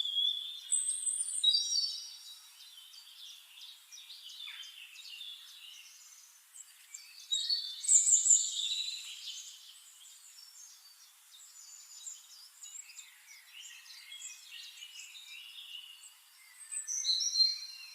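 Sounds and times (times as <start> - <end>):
sparrows chirping: 0.0 - 17.9.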